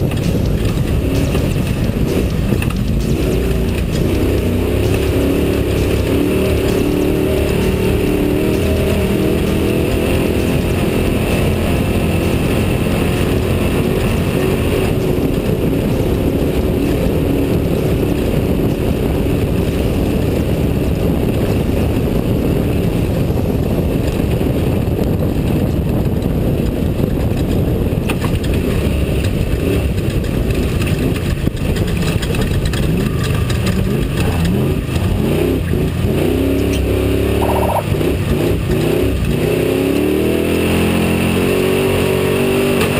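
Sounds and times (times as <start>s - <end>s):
race truck engine: 0.0s - 42.9s.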